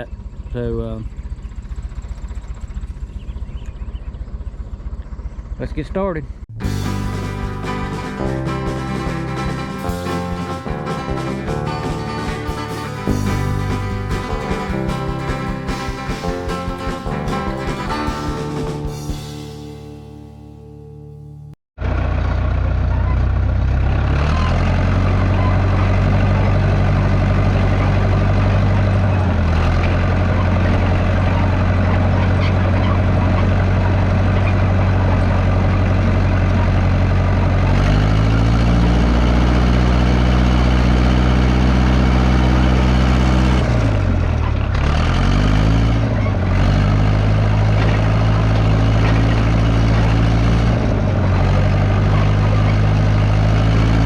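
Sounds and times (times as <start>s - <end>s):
dozer engine running: 0.0s - 54.0s.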